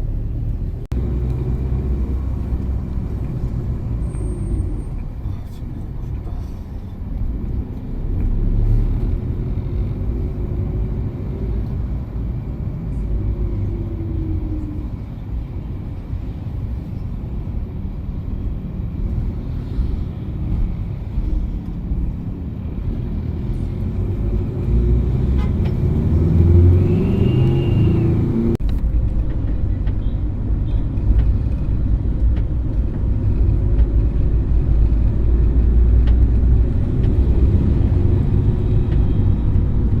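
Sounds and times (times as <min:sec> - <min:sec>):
road noise: 0:00.0 - 0:40.0
vehicle engine rumble: 0:00.0 - 0:40.0.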